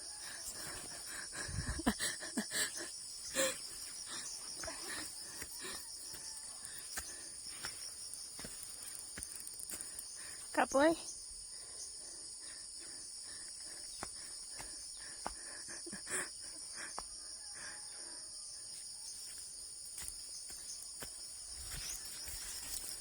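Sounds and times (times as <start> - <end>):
crickets and insects chirping: 0.0 - 23.0.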